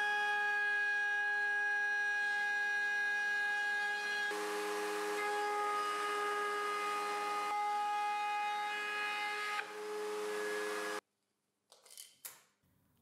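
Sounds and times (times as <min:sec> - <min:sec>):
router cutting laminate: 0:00.0 - 0:11.0.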